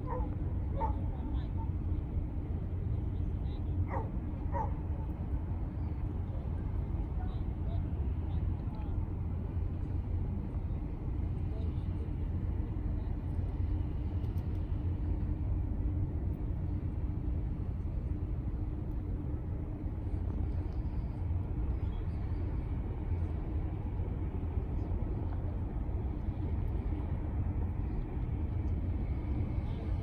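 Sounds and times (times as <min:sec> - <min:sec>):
faint steady hum: 0:00.0 - 0:30.0
low outdoor rumble: 0:00.0 - 0:30.0.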